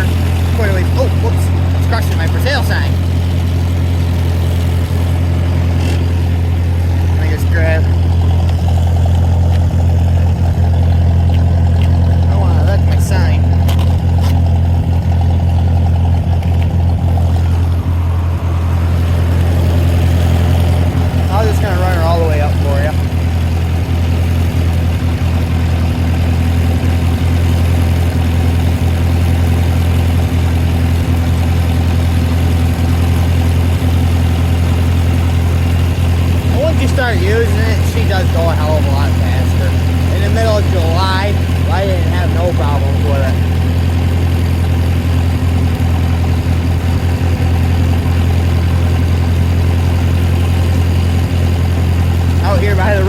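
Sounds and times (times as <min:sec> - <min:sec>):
tractor engine running steadily: 0:00.0 - 0:53.0.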